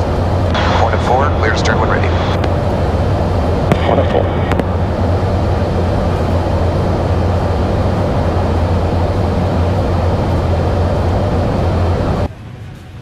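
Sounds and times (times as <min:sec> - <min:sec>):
aircraft engine drone: 0:00.0 - 0:13.0
strong low hum: 0:00.0 - 0:13.0.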